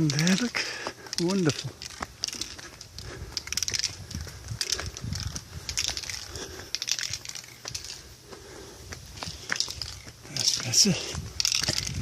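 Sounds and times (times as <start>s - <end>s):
footsteps crunching on rough ground: 0.0s - 12.0s.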